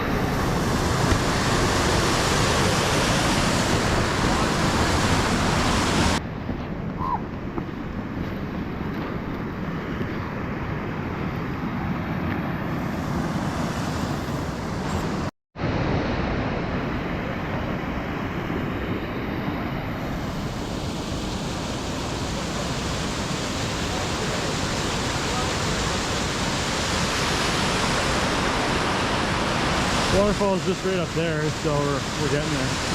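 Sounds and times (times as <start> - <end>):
creek water rushing: 0.0 - 16.5, 18.4 - 32.9.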